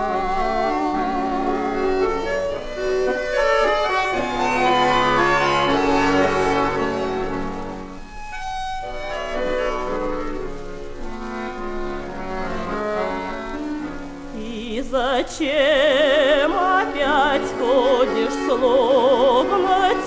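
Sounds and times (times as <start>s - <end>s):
orchestral music with bowed strings: 0.0s - 20.0s.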